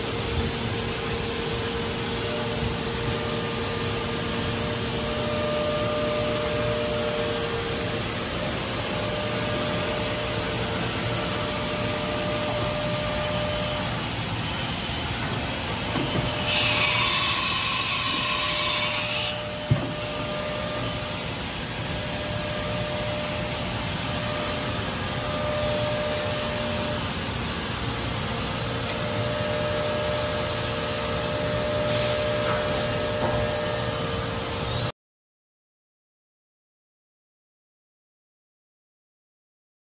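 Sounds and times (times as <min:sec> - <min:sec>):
hissing whir: 0:00.0 - 0:34.0
milling machine humming: 0:00.0 - 0:34.9.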